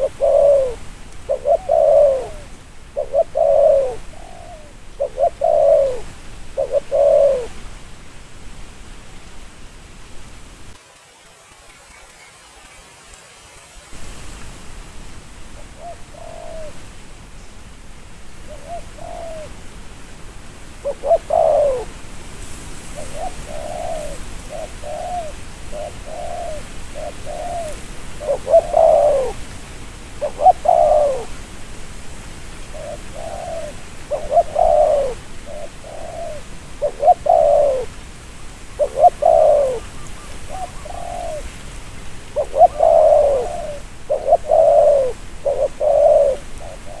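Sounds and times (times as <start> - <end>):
dove cooing: 0.0 - 7.8, 15.5 - 16.9, 18.3 - 47.0
steady hiss: 0.0 - 47.0.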